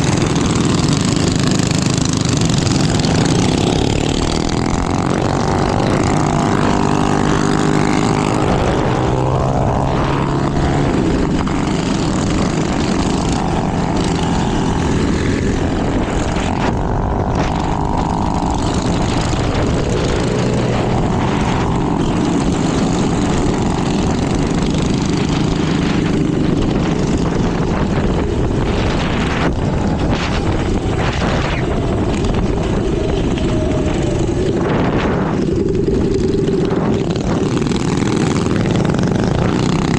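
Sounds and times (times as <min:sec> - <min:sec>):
minibike engines revving: 0:00.0 - 0:39.9
steady rushing noise: 0:00.0 - 0:39.9.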